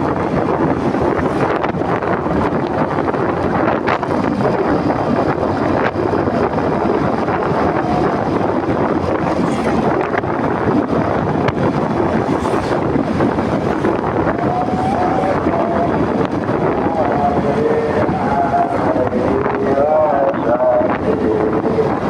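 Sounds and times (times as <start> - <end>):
motorcycle running: 0.0 - 19.6
road noise: 0.0 - 22.0
wind roaring over microphone: 0.0 - 22.0.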